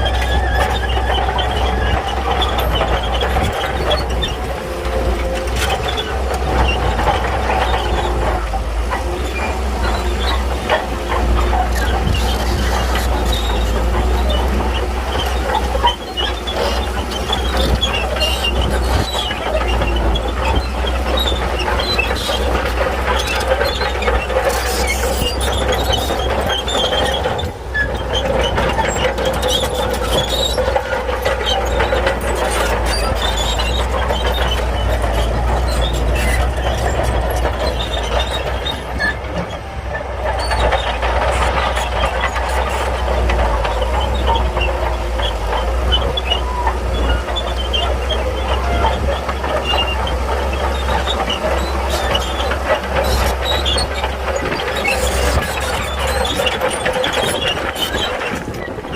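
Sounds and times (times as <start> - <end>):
bulldozer engine rumble: 0.0 - 58.9
steel tracks clanking and squealing: 0.0 - 58.9.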